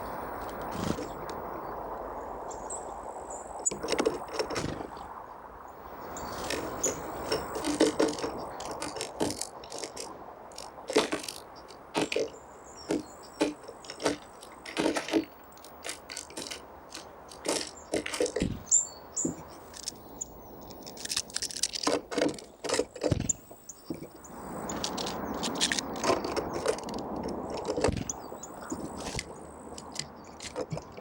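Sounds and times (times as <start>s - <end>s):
birds pecking at seeds: 0.4s - 1.4s, 5.8s - 31.0s.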